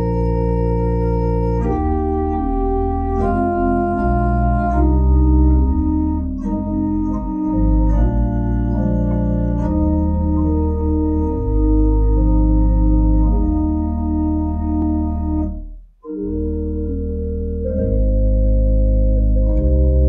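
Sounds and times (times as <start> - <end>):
organ playing slow chords: 0.0 - 20.0.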